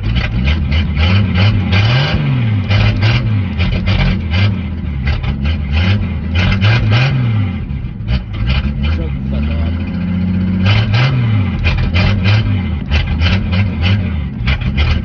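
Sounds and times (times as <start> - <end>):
engine running unevenly: 0.0 - 15.0.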